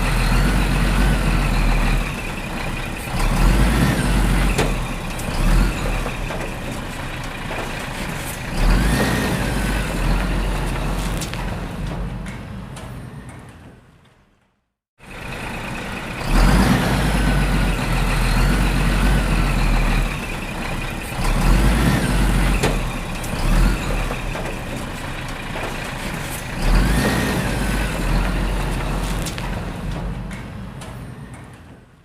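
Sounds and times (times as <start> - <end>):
truck engine rumbling: 0.0 - 32.0.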